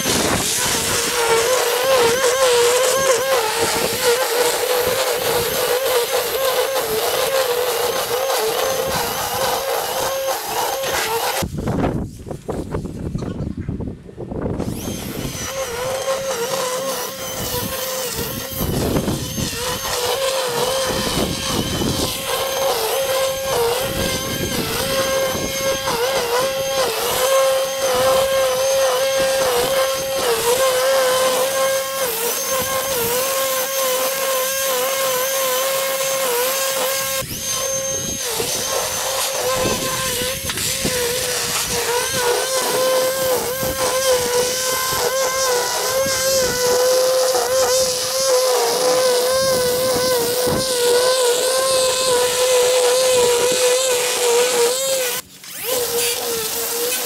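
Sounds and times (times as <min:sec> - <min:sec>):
electric motor whine: 0:00.0 - 0:12.7, 0:14.4 - 0:57.0.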